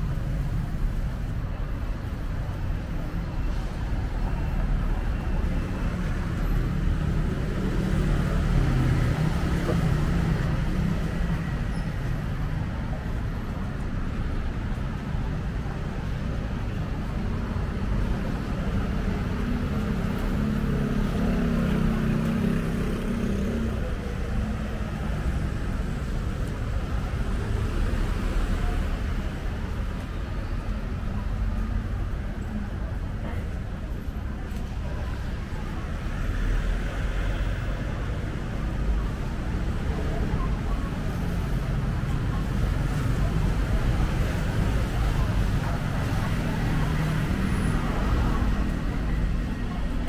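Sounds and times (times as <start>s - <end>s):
street traffic: 0.0s - 50.0s
vehicles passing close: 0.0s - 50.0s.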